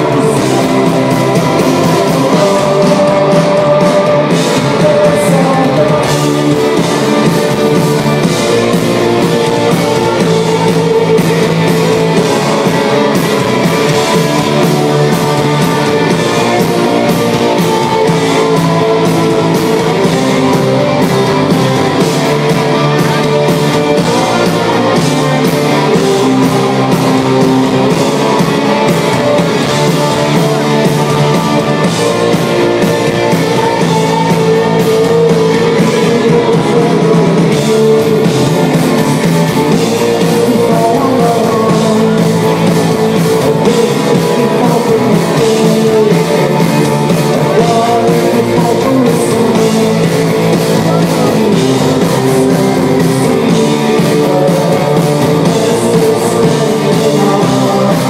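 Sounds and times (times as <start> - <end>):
drums: 0.0 - 58.0
electric guitars: 0.0 - 58.0
man singing into microphone: 0.0 - 58.0.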